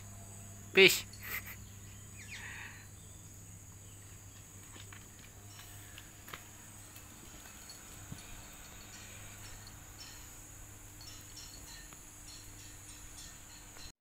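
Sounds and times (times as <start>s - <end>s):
high-pitched insect drone: 0.0s - 13.9s.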